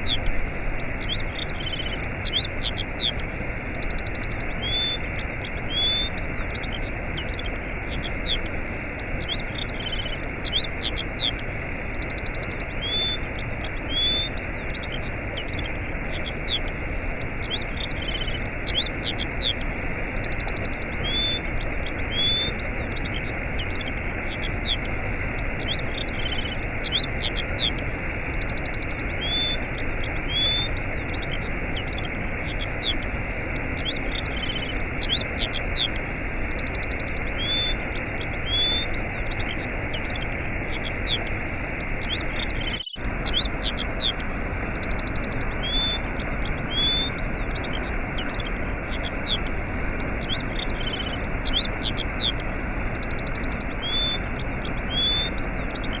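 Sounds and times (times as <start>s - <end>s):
waterfall rushing: 0.0s - 19.8s, 20.4s - 56.0s
small birds chirping and trilling: 0.0s - 56.0s.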